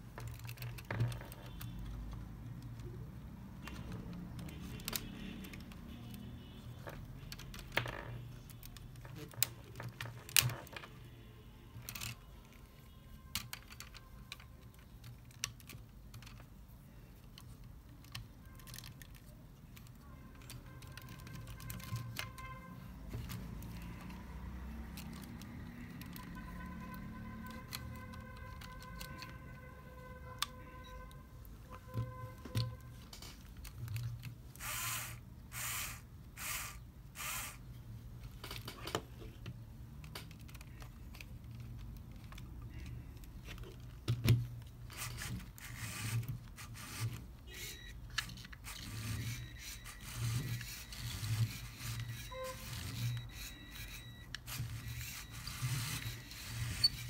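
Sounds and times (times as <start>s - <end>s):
plastic parts clicking and rattling: 0.0s - 57.0s.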